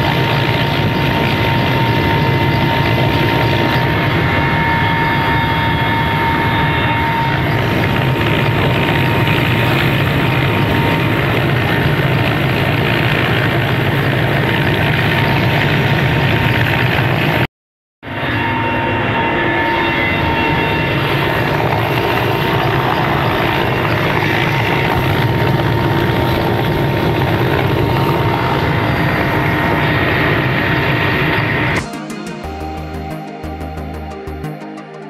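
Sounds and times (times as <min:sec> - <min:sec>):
helicopter engines and rotor: 0:00.0 - 0:35.0.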